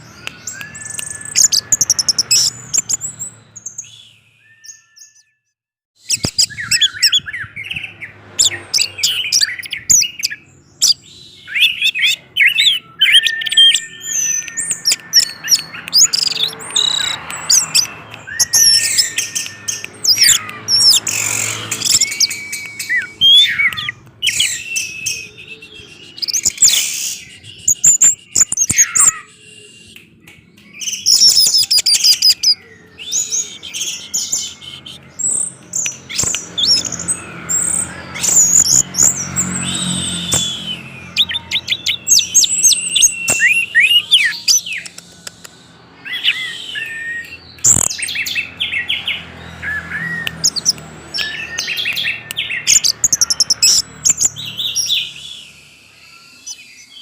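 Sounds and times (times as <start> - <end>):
thrush singing: 6.1 - 57.0.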